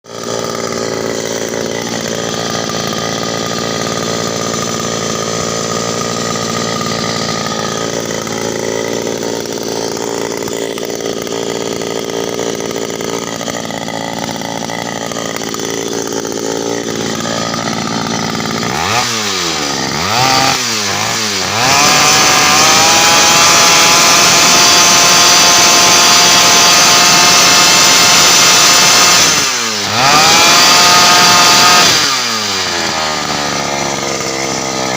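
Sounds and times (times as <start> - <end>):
two-stroke engine revving: 0.1 - 34.9.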